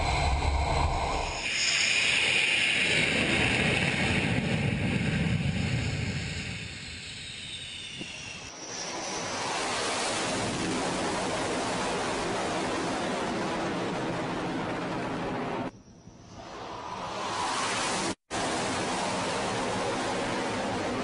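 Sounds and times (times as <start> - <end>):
jet aircraft roaring past: 0.0 - 15.7, 16.3 - 21.0.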